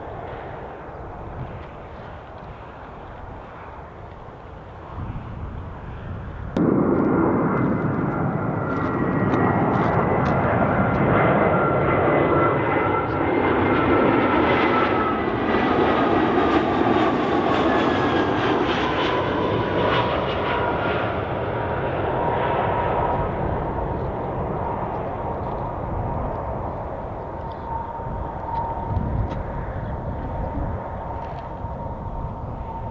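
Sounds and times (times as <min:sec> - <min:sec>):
jet airliner engines roaring: 0:00.0 - 0:32.9.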